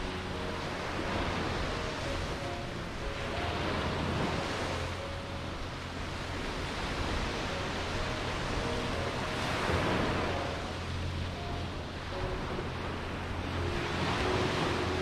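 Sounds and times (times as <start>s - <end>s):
waves washing onto beach: 0.0s - 15.0s.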